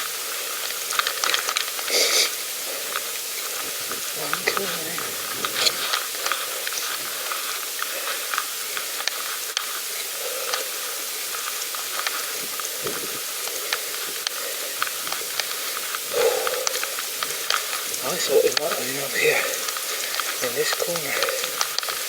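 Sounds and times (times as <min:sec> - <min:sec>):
bicycle tyre hiss with crackles: 0:00.0 - 0:22.0.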